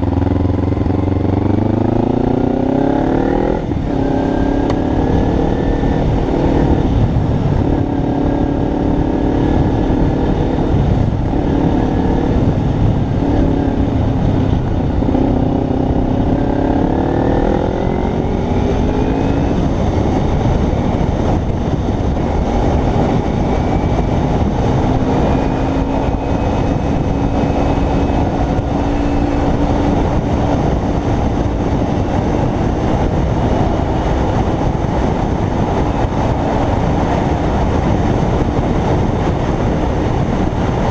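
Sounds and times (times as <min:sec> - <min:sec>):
motorcycle engine under way: 0:00.0 - 0:40.9
wind and road noise: 0:00.0 - 0:40.9.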